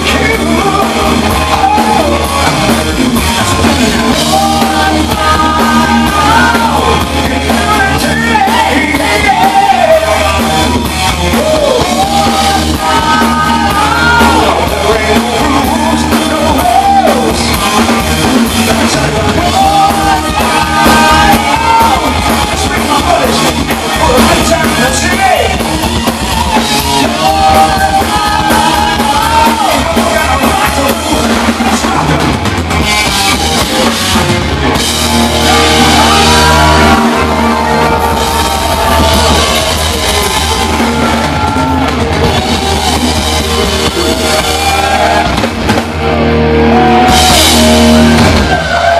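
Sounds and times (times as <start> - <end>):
live hard rock band: 0.0 - 48.9.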